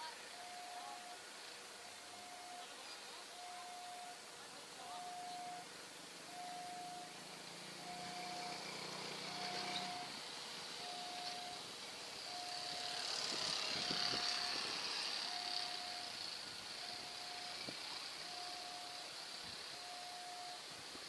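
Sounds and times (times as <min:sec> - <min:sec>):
level crossing alarm tone: 0:00.0 - 0:20.8
high steady hiss: 0:00.0 - 0:21.0.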